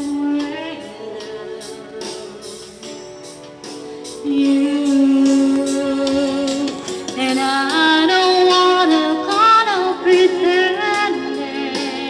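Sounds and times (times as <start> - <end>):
woman singing wordless melody: 0.0 - 2.9, 4.2 - 12.0
backing music: 0.0 - 12.0.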